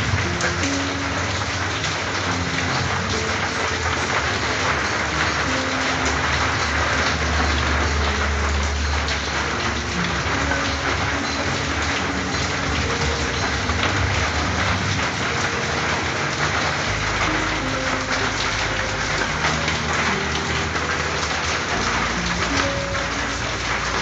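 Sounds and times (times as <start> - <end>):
heavy rain on a tin roof: 0.0 - 24.0.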